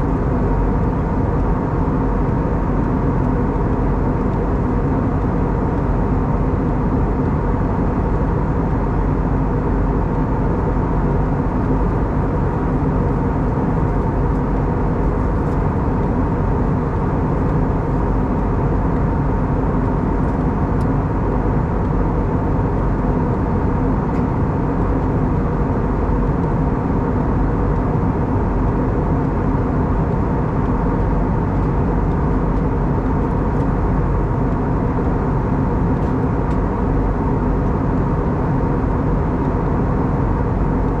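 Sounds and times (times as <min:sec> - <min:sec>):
airplane cabin engine drone: 0:00.0 - 0:41.0
constant hum of held tones: 0:00.0 - 0:41.0.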